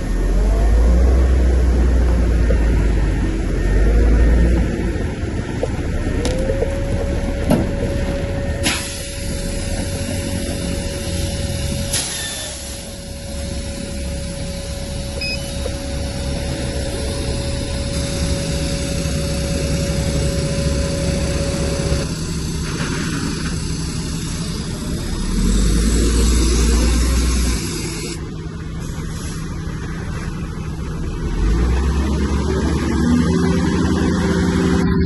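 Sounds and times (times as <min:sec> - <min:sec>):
thin steady whine: 0:00.0 - 0:31.2
heavy diesel engine running: 0:00.0 - 0:35.0.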